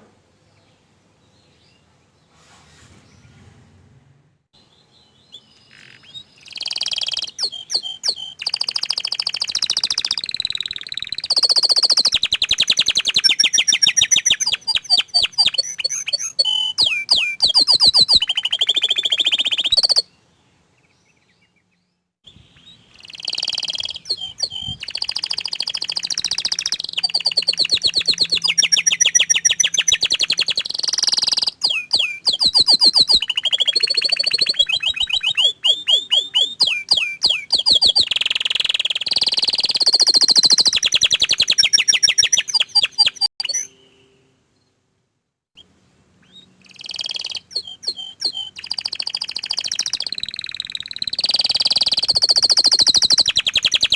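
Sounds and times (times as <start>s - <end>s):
canary singing trills: 4.6s - 20.2s, 20.8s - 44.7s, 45.6s - 53.9s.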